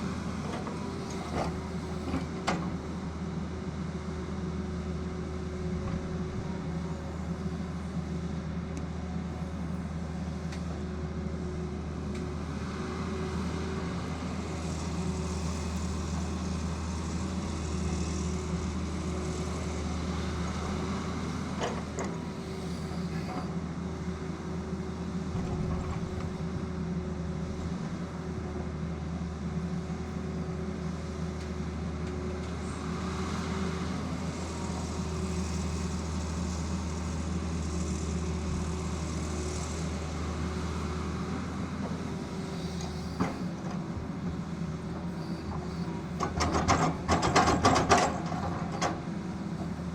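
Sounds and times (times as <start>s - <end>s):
excavator diesel engine humming: 0.0s - 49.9s.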